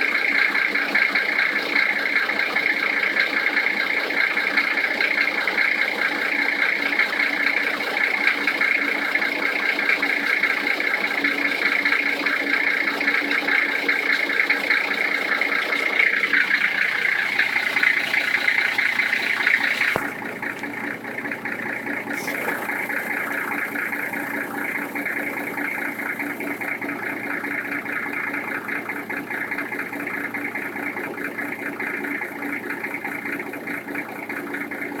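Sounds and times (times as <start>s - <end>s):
diesel engine idling with knock: 0.0s - 35.0s.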